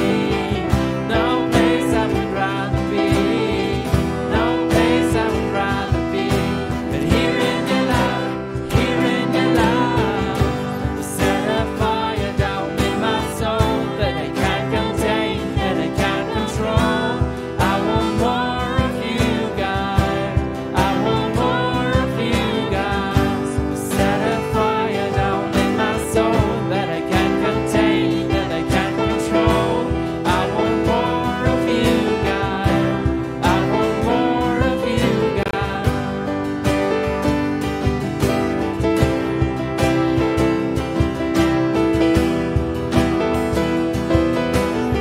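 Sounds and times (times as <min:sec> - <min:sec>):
man singing worship song: 0:00.0 - 0:36.9
strummed acoustic guitar: 0:00.0 - 0:45.0.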